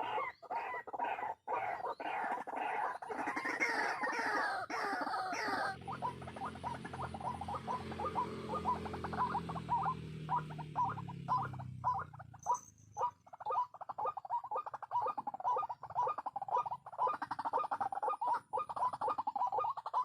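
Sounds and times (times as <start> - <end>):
waterhens croaking calls: 0.0 - 20.0.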